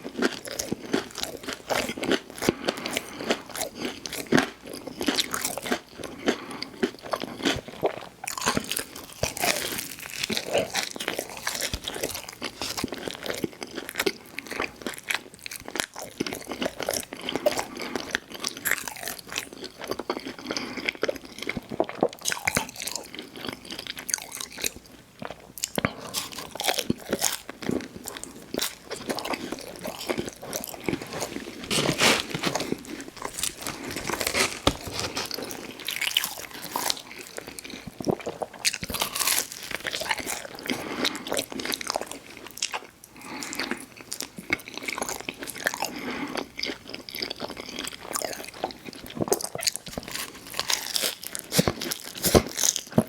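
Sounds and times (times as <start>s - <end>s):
person chewing with crunches: 0.0s - 53.0s.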